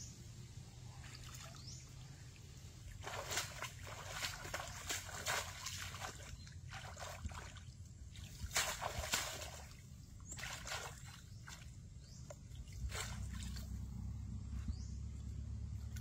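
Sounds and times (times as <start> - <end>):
shallow water sloshing and splashing: 1.0 - 13.9
steady low rumble: 1.8 - 16.0.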